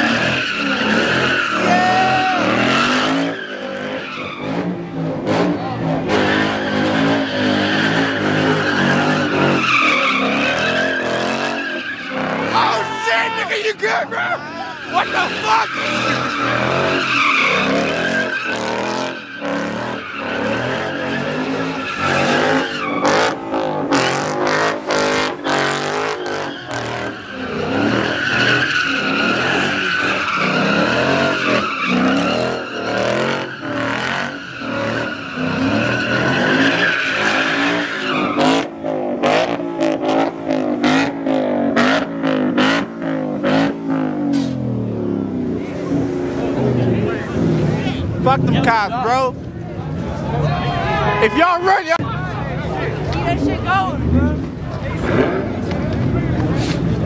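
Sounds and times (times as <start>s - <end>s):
tyres skidding on snow: 0.0s - 52.0s, 52.6s - 57.0s
car engines revving: 0.0s - 57.0s.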